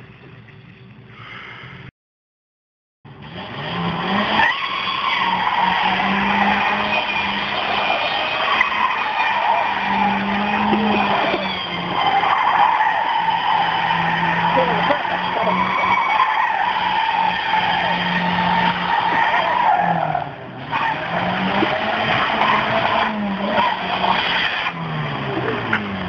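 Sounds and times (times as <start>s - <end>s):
car engine revving high: 3.1s - 26.0s
tyres skidding on wet asphalt: 3.1s - 26.0s.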